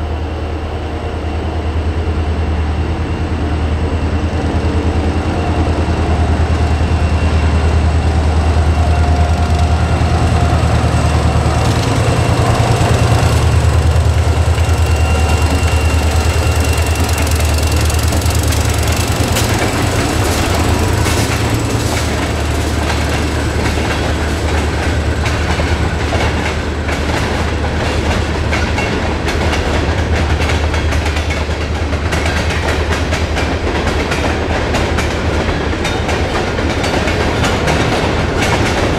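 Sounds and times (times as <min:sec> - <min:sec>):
locomotive engines droning: 0:00.0 - 0:38.9
train wheels clacking on rails: 0:04.1 - 0:38.9.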